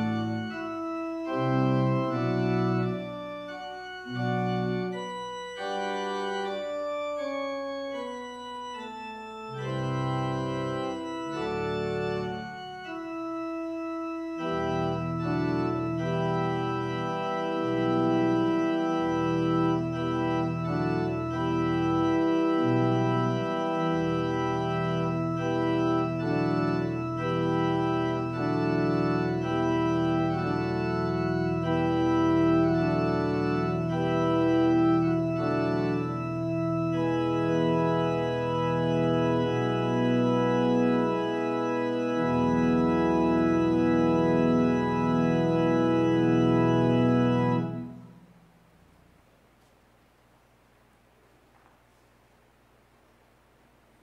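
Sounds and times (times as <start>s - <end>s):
organ music with held chords: 0.0s - 51.7s.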